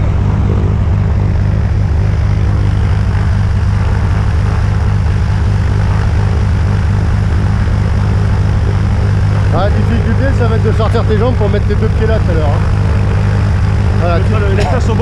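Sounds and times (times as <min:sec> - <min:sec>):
propeller plane engine idling: 0:00.0 - 0:15.0.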